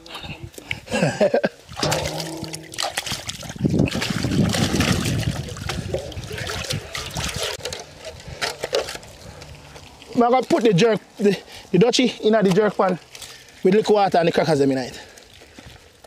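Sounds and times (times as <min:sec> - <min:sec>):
water pouring and splashing: 0:01.6 - 0:16.0.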